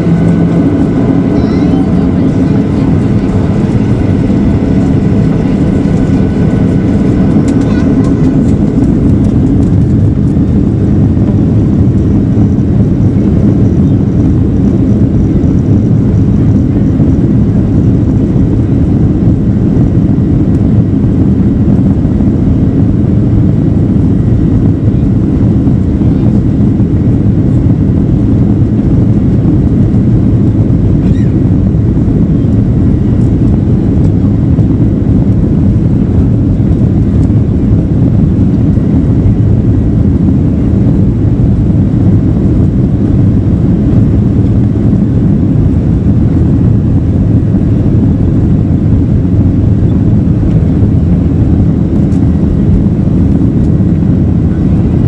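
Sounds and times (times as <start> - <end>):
jet engine rumble inside cabin: 0.0 - 55.0.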